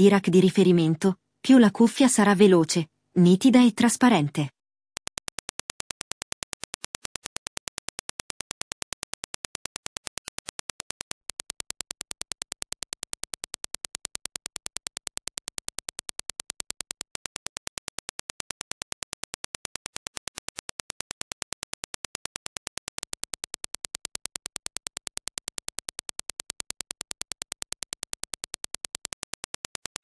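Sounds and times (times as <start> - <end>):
rapid sharp clicks: 5.0 - 30.0.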